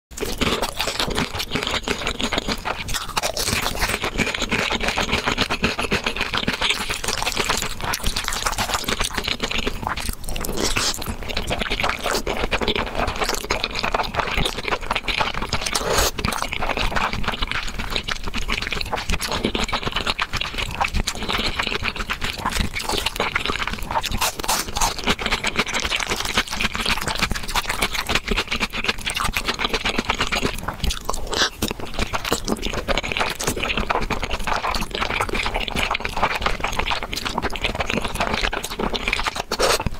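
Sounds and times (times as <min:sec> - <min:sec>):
chewing and slurping noodles: 0:00.1 - 0:39.9
crunching fried dumplings: 0:00.1 - 0:39.9.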